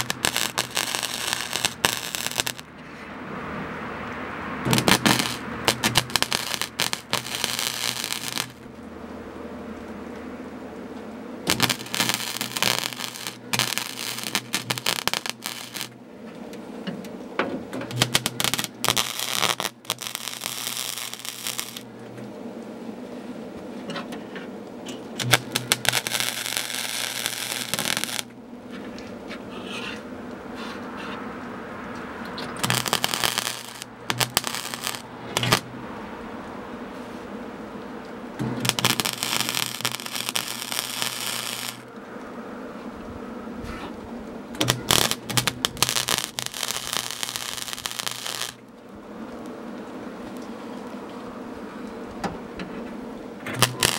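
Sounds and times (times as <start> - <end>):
welder arc crackling: 0.0 - 2.9, 4.0 - 23.7, 24.9 - 29.0, 31.4 - 43.1, 44.0 - 51.3, 52.1 - 53.9.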